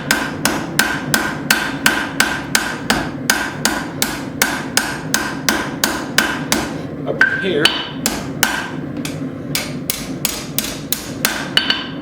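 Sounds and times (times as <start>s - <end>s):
hammer striking steel on anvil: 0.0s - 8.8s, 9.6s - 12.0s.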